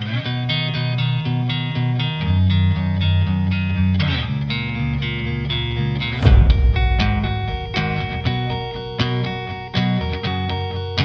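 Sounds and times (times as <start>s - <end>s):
guitar music with bass line: 0.0s - 9.8s.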